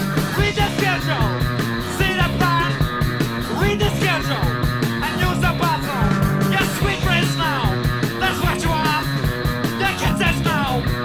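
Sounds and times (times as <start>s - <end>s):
electric guitars and bass: 0.0s - 11.0s
steady drum beat: 0.0s - 11.0s.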